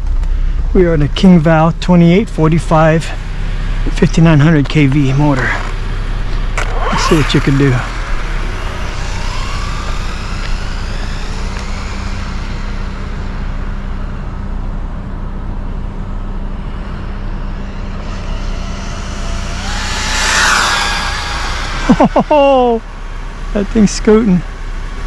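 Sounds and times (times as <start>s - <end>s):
steady low hum: 0.0s - 25.0s
rc car electric motor whine: 3.2s - 15.4s, 16.1s - 25.0s.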